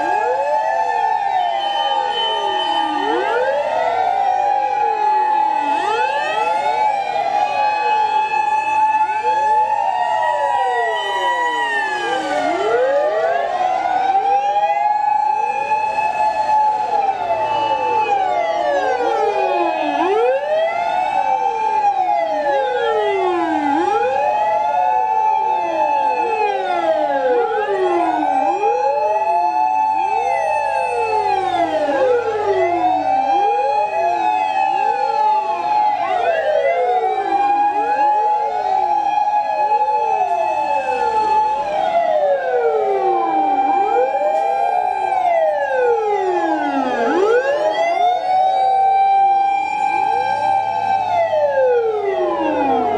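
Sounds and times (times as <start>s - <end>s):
fire engine sirens wailing: 0.0s - 52.9s.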